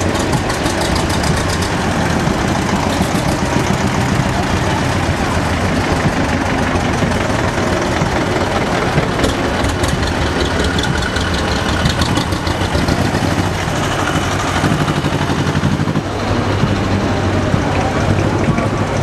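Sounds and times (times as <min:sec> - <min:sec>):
rapid rhythmic clatter: 0:00.0 - 0:19.0
tractor engines chugging: 0:00.0 - 0:19.0.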